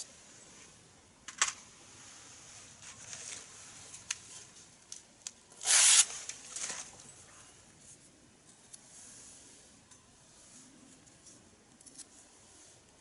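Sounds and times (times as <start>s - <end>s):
scratchy rustling and handling: 1.9s - 13.0s.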